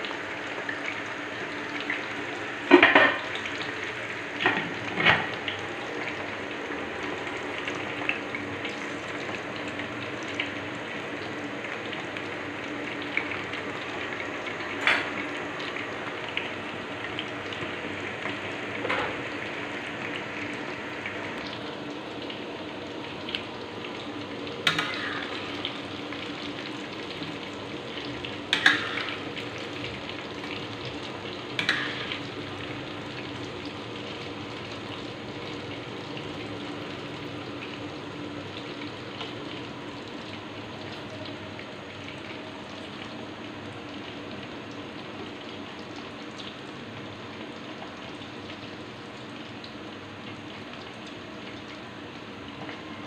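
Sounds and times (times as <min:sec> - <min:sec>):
food sizzling in oil: 0:00.0 - 0:53.0.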